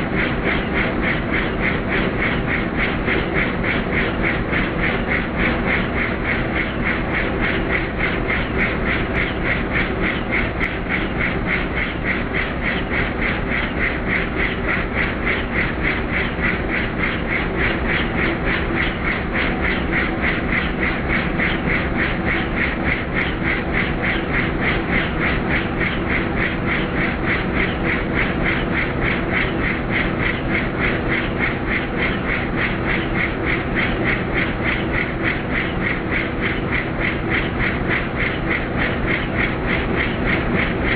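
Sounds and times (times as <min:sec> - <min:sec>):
helicopter engine and turbine: 0:00.0 - 0:40.9
helicopter rotor chopping: 0:00.0 - 0:40.9.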